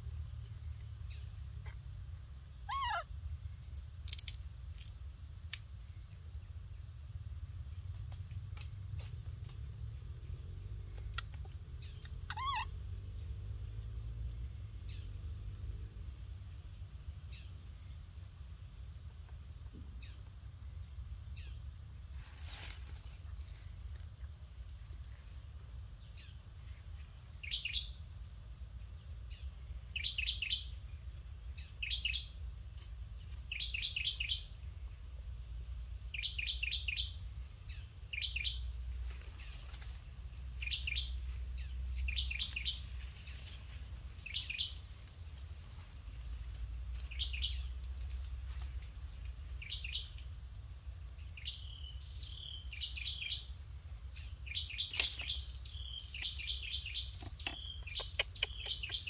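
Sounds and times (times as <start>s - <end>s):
bird chirping: 0.0s - 5.1s, 5.8s - 59.0s.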